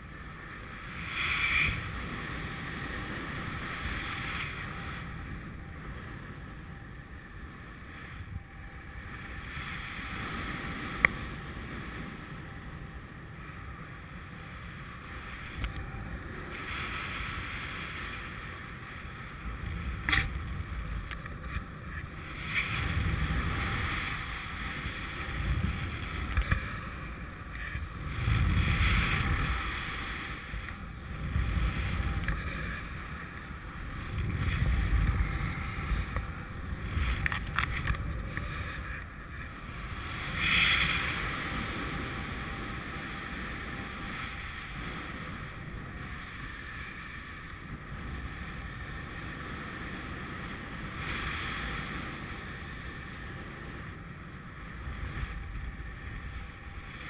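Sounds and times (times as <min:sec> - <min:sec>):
wind rushing over camera: 0:00.0 - 0:57.0.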